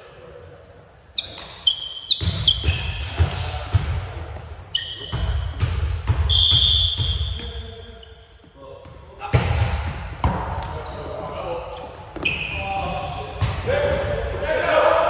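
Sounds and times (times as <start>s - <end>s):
sneakers squeaking on gym floor: 0.0s - 15.0s.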